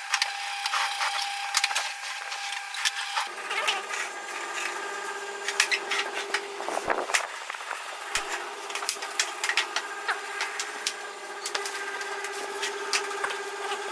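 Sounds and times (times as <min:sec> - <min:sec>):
steady hum: 0:00.0 - 0:13.9.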